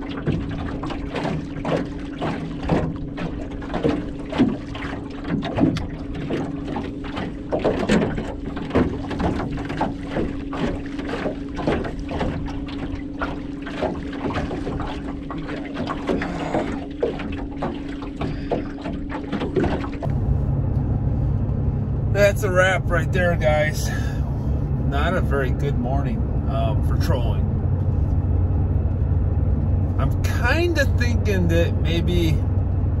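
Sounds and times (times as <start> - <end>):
waves slapping boat hull: 0.0 - 21.4, 22.1 - 33.0
vehicle cabin road drone: 0.0 - 33.0.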